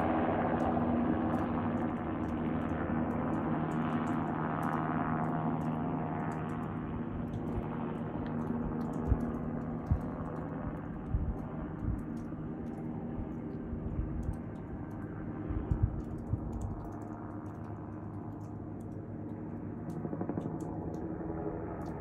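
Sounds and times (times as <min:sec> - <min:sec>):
distant helicopter flying low: 0:00.0 - 0:22.0
faint clicks: 0:01.3 - 0:22.0.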